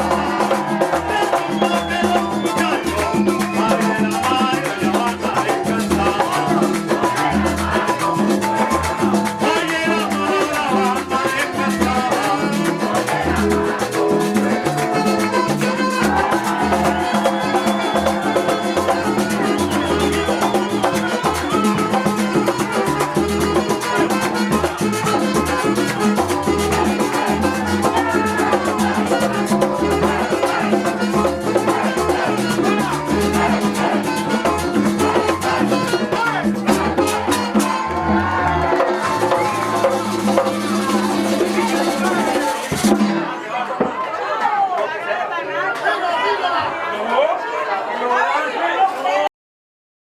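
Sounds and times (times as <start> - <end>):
latin dance music: 0.0 - 43.4.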